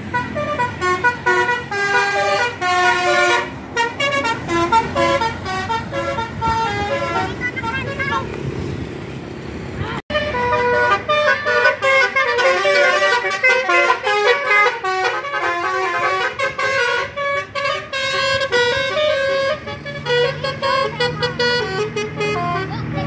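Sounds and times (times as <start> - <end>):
musical air horn tune: 0.0 - 8.0, 10.1 - 22.8.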